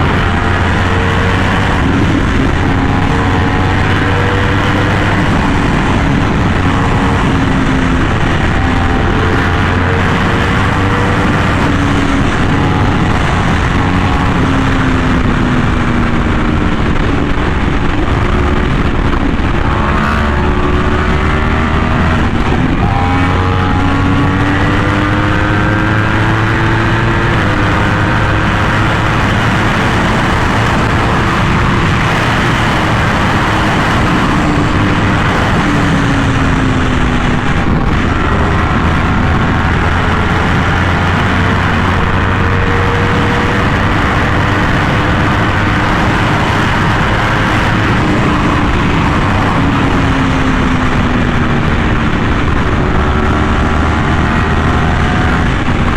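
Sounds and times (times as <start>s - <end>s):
motorcycle engine pulling hard: 0.0s - 55.9s
wind rush on microphone: 0.0s - 55.9s.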